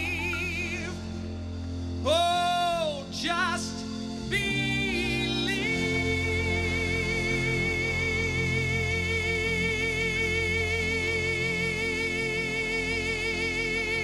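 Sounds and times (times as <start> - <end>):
man singing with vibrato: 0.0 - 14.0.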